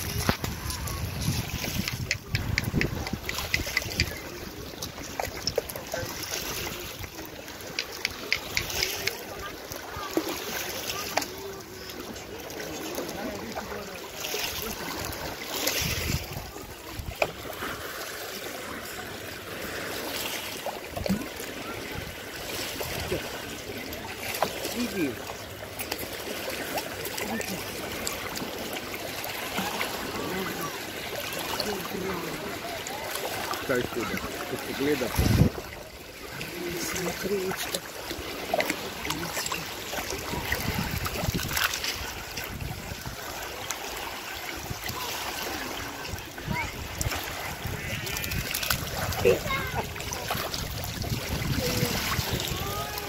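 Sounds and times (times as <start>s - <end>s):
sea water lapping over pebbles: 0.0s - 53.0s
small splashes: 0.0s - 53.0s.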